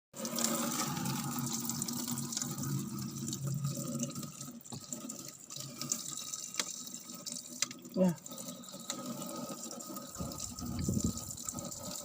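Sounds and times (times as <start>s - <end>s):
running water: 0.2s - 12.0s.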